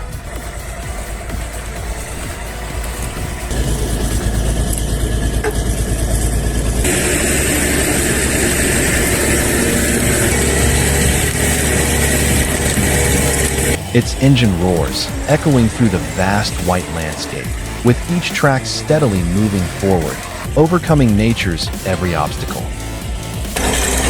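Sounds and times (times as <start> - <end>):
skidder engine under load: 0.1 - 24.0.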